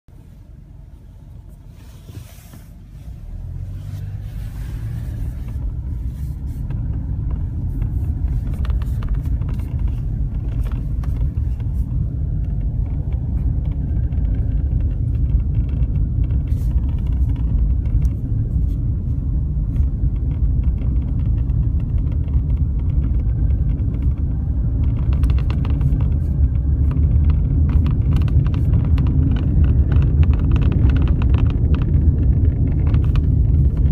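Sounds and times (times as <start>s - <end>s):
car low rumble: 0.1s - 33.9s.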